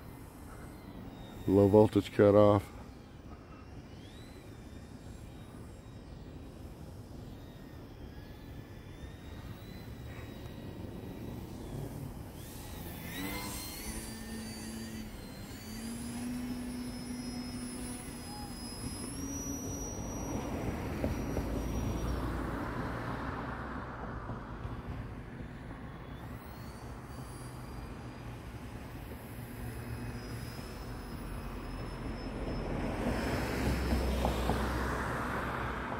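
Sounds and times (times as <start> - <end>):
rc plane motor whining: 0.0 - 35.9.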